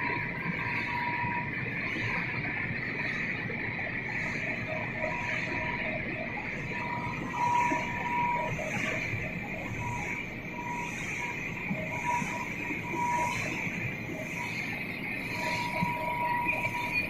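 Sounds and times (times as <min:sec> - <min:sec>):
production line machinery running: 0:00.0 - 0:17.0.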